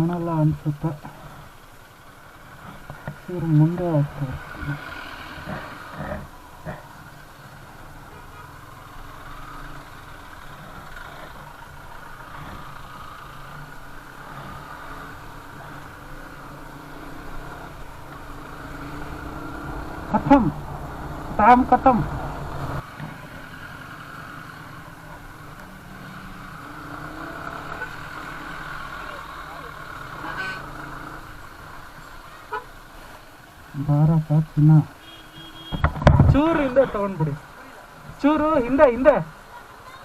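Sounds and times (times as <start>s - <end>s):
road noise: 0.0s - 40.0s
vehicle engine humming: 0.0s - 40.0s.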